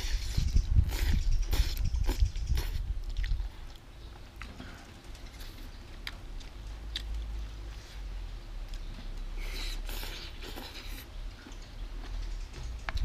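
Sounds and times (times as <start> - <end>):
person chewing: 0.0 - 7.9, 8.7 - 12.2.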